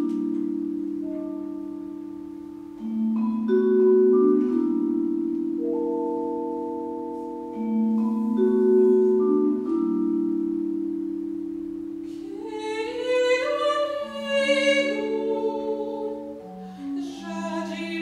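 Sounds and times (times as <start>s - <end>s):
vibraphone chords with vibrato: 0.0s - 18.0s.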